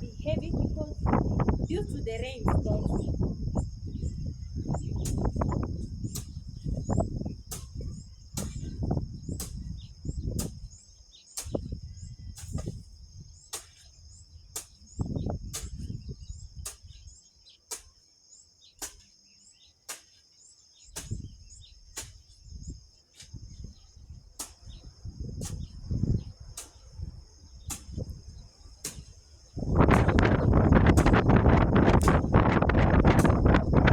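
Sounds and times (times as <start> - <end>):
wind buffeting microphone: 0.0 - 17.2, 21.0 - 33.9
insects trilling: 0.0 - 33.9.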